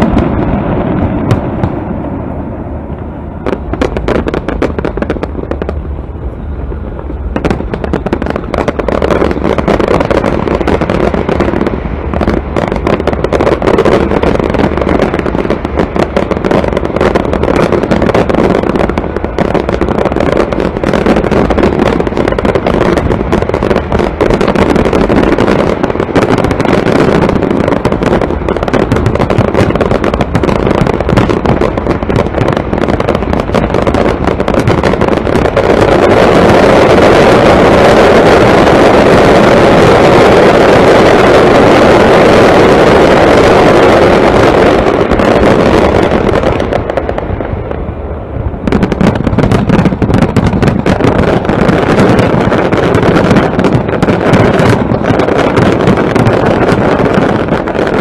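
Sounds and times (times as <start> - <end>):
low rumble: 0.0 - 41.5, 43.1 - 58.0
fireworks bangs and crackles: 0.0 - 58.0.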